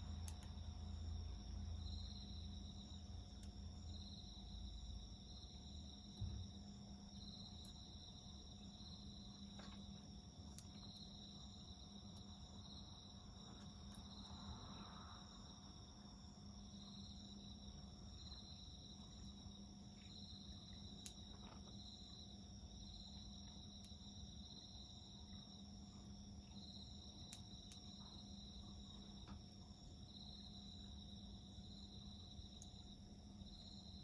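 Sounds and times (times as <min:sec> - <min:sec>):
wood fire popping: 0:00.0 - 0:01.1, 0:01.9 - 0:34.0
crickets trilling: 0:00.0 - 0:34.0.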